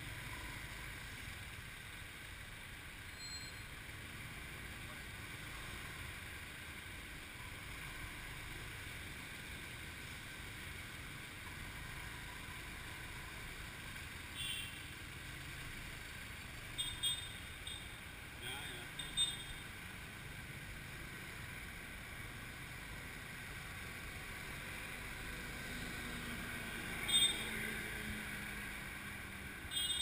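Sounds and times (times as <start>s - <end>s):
motorcycle engine and road noise: 0.0s - 30.0s.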